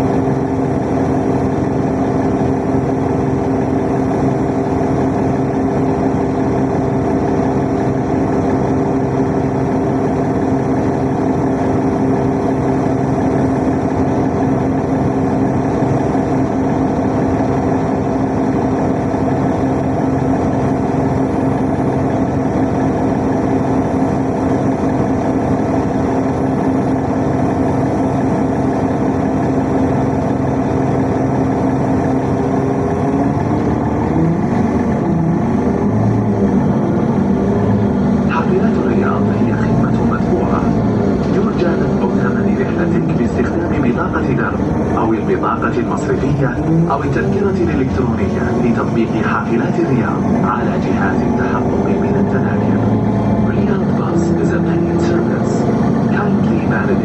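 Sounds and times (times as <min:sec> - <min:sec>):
vehicle motor hum: 0:00.0 - 0:57.0.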